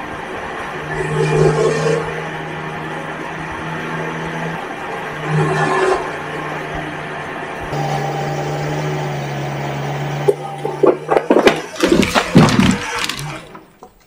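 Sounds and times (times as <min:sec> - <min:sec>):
engine running at low hum: 0:00.0 - 0:13.6.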